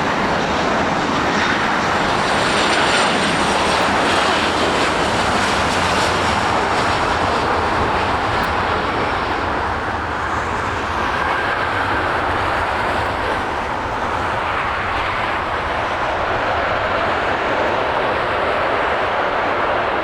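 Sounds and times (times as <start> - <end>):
jet engine rushing: 0.0 - 20.0.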